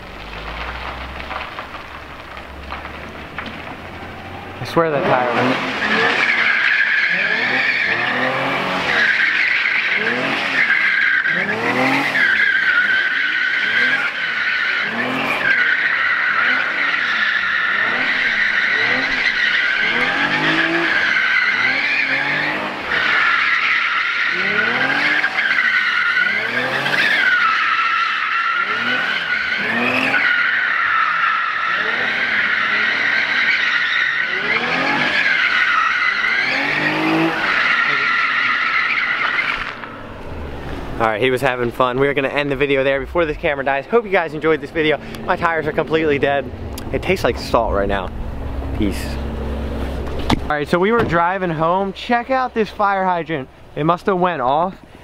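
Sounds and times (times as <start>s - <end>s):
car engine revving: 0.0s - 54.6s
tyres squealing: 0.1s - 54.8s.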